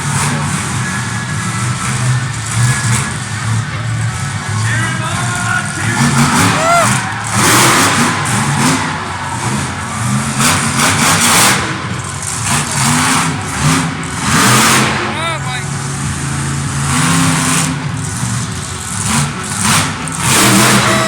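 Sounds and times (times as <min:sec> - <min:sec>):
truck engines revving: 0:00.0 - 0:21.0.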